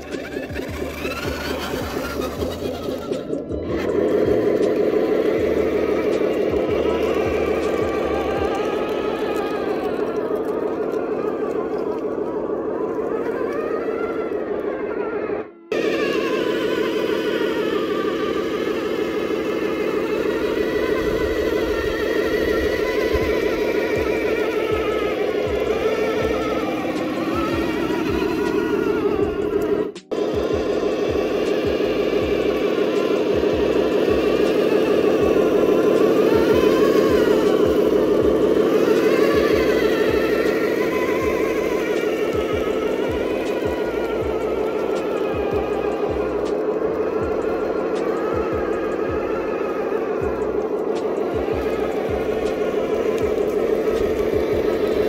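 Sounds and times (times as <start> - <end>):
electronic truck engine sound: 0.0 - 55.0
rising and falling whine: 0.0 - 55.0.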